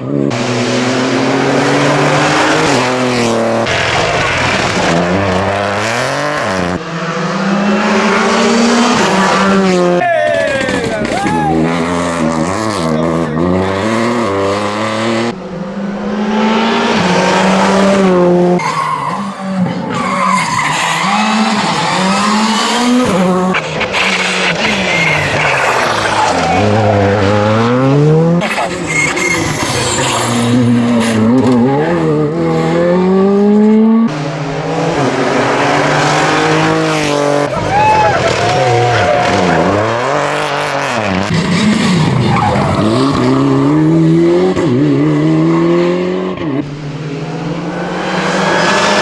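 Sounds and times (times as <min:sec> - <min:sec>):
rally car engines revving: 0:00.0 - 0:49.0
tyre and road noise: 0:00.0 - 0:49.0.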